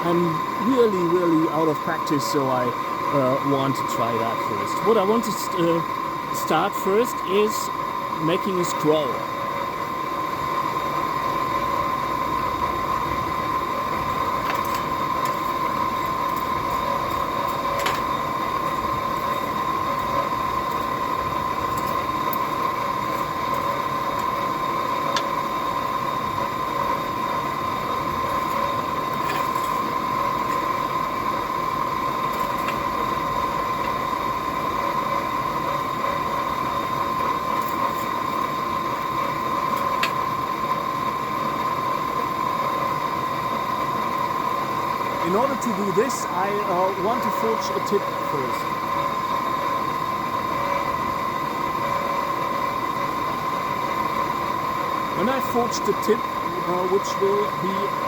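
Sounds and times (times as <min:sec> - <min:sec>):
forge rushing with whine: 0:00.0 - 0:58.0.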